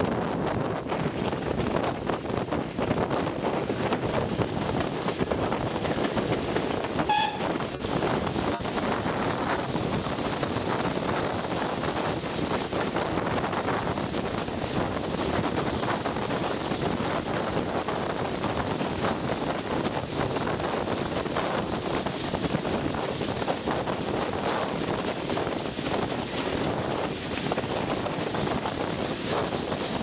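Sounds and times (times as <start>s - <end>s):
train wheels on rail: 0.0s - 30.0s
wind on microphone: 0.0s - 30.0s.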